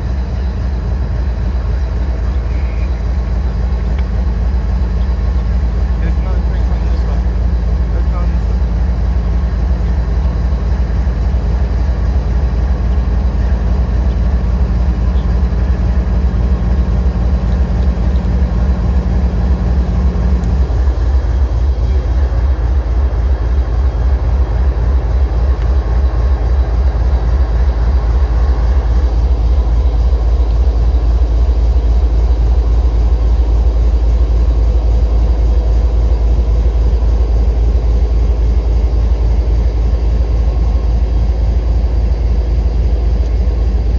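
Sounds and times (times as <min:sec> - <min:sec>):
diesel locomotive engine rumbling: 0:00.0 - 0:43.9
steady hum: 0:00.0 - 0:43.9.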